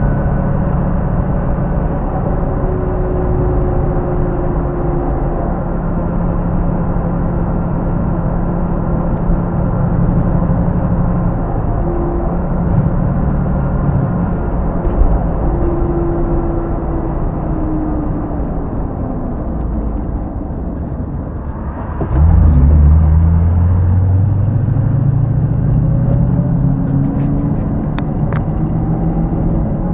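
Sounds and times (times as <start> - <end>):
car engine accelerating: 0.0 - 29.9.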